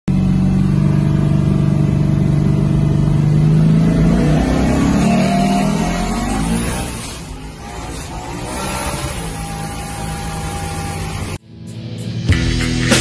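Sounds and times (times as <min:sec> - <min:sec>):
car engine running hard: 0:00.1 - 0:11.4.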